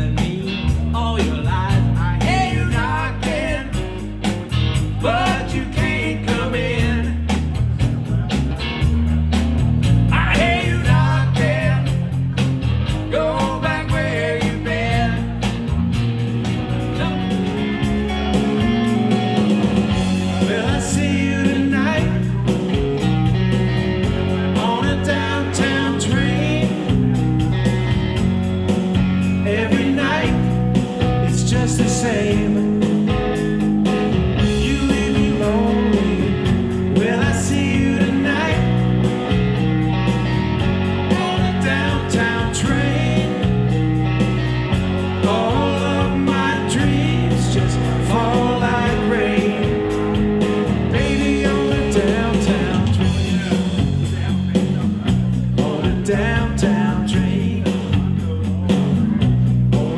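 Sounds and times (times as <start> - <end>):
electric bass line: 0.0 - 59.9
electric guitar lines: 0.0 - 59.9.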